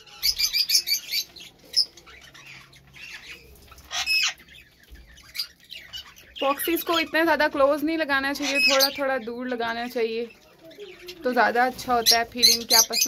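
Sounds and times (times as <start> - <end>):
budgerigars chirping and squawking: 0.0 - 13.0.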